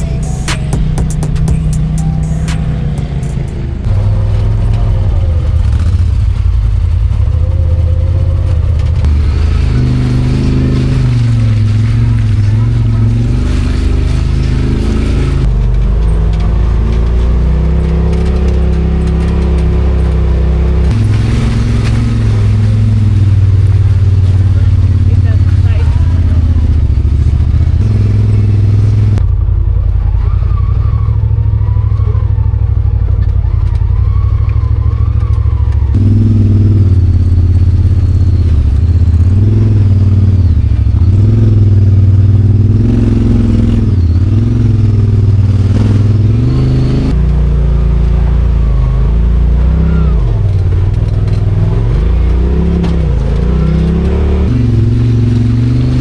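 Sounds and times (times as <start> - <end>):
engine revving: 0.0 - 56.0.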